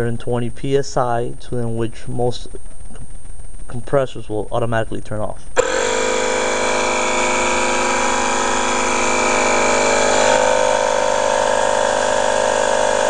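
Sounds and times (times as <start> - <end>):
air compressor running: 0.8 - 4.1, 5.4 - 13.0.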